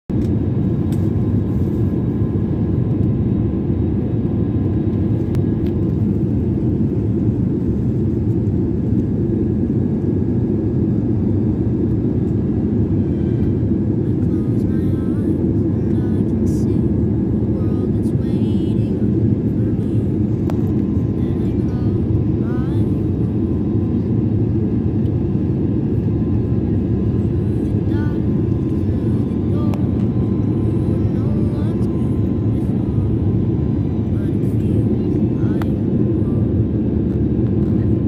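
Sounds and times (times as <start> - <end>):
airliner engine drone in cabin: 0.1 - 38.0.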